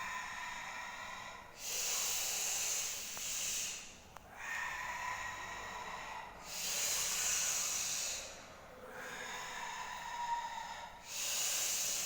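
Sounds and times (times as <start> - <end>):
person breathing forcefully: 0.0 - 12.0.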